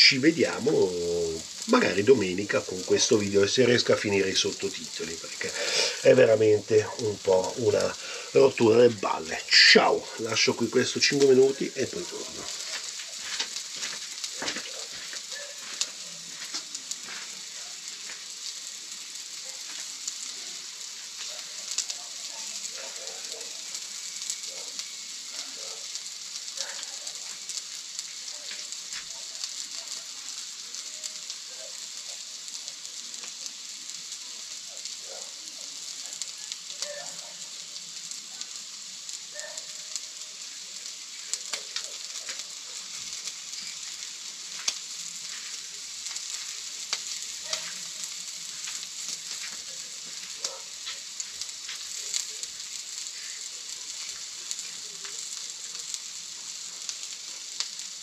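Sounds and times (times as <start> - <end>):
fat crackling and popping: 0.0 - 58.0
meat sizzling on a grill: 0.0 - 58.0.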